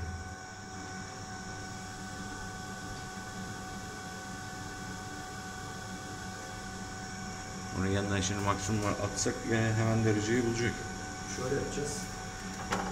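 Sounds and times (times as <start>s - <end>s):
fan humming with whining tones: 0.0s - 12.9s.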